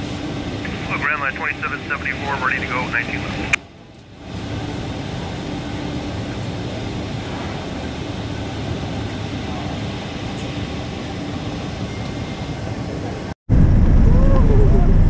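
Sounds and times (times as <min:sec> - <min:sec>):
airplane cabin engine noise: 0:00.0 - 0:15.0.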